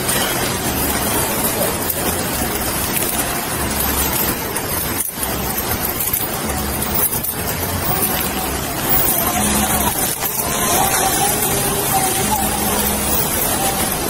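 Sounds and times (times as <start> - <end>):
microphone hiss and hum: 0.0 - 14.0
vehicle running: 0.0 - 14.0.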